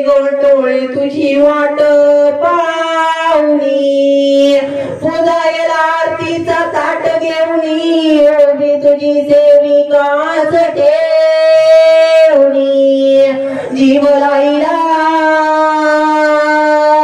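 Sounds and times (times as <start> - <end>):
high voice singing devotional song: 0.0 - 17.0.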